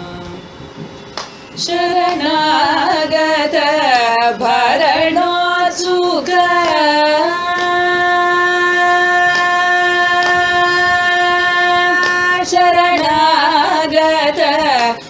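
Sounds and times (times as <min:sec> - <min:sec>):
woman singing with ornaments: 0:01.5 - 0:15.0.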